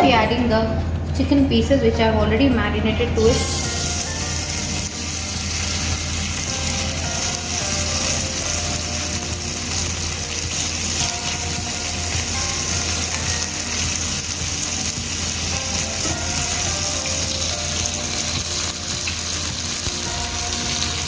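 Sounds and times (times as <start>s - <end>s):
quiet background music: 0.0s - 21.0s
chicken frying in hot oil: 3.5s - 21.0s.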